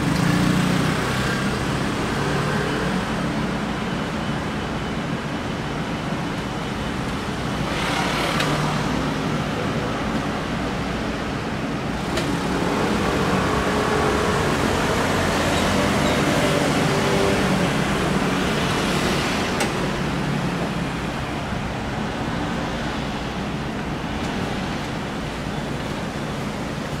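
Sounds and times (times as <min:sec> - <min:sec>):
city street traffic hum: 0:00.0 - 0:27.0.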